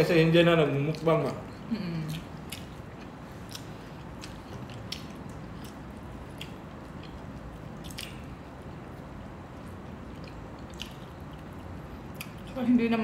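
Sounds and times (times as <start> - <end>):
people chewing food: 0.6 - 12.6.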